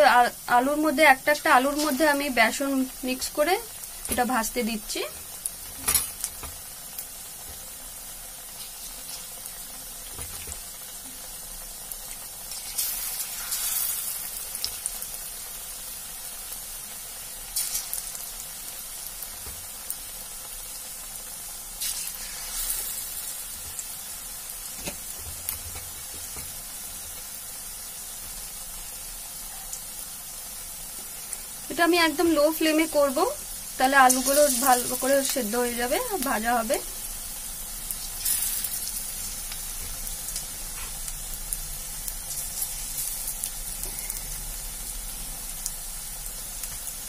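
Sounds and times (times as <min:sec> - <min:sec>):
food frying in hot oil: 0:00.0 - 0:47.0.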